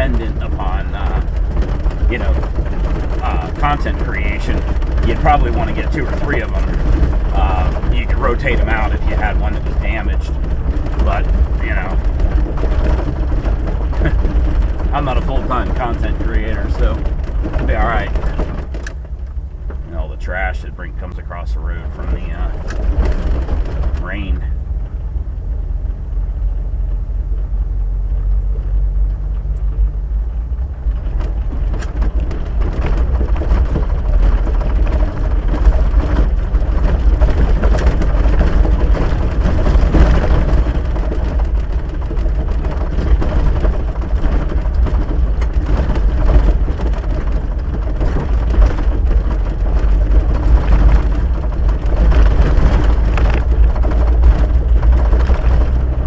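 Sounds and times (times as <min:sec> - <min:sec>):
gravel clicks: 0:00.0 - 0:56.0
rattles: 0:00.0 - 0:56.0
vehicle rumbling on dirt road: 0:00.0 - 0:56.0.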